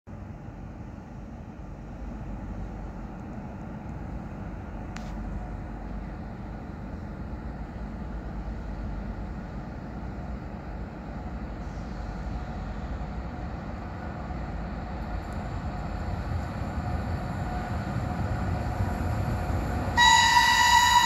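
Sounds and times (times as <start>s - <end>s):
distant train rumble: 0.1s - 21.0s.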